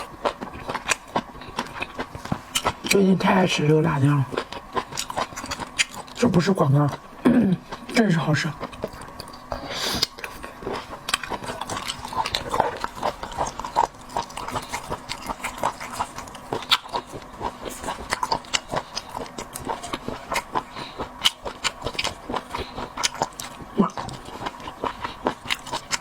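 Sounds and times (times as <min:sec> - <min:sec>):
close chewing with lip smacks: 0:00.0 - 0:03.0, 0:04.2 - 0:07.1, 0:07.7 - 0:26.0.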